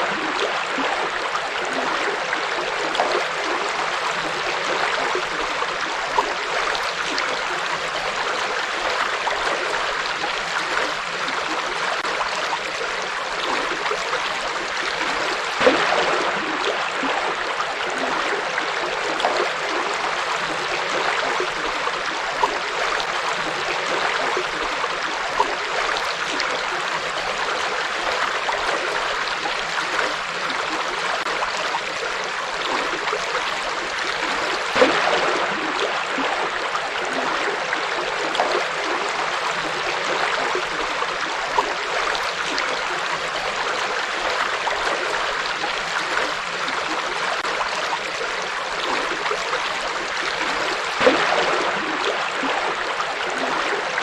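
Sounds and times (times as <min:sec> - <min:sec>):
river water flowing over rocks: 0:00.0 - 0:54.0
water splashes: 0:00.0 - 0:54.0.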